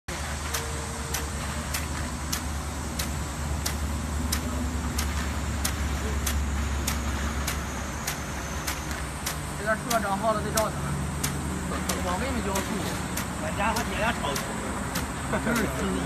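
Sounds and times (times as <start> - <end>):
water jet hissing: 0.1 - 16.0
sprinkler drive clicks: 0.4 - 16.0.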